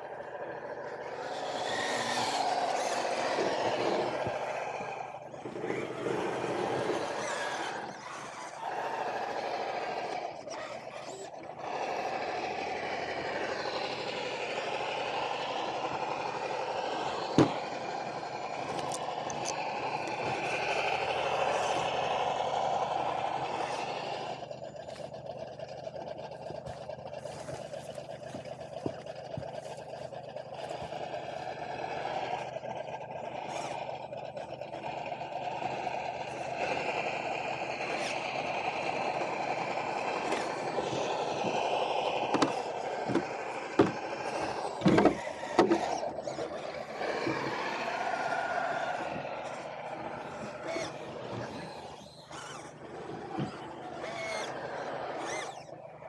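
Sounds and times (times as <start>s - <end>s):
electric motor and gears whining: 0.0s - 56.0s.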